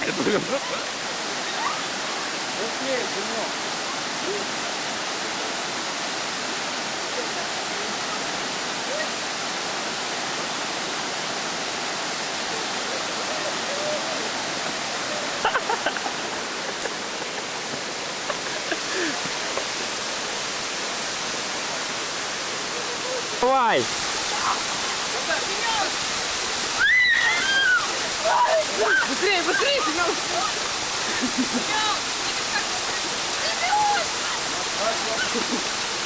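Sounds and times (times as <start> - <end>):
small waterfall rushing over stones: 0.0 - 36.0.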